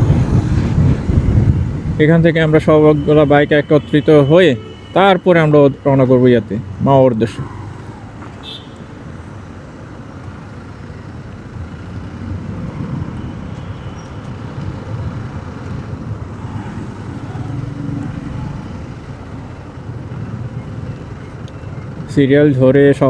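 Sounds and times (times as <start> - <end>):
motorcycle engines rumbling: 0.0 - 23.0
road traffic: 0.0 - 23.0.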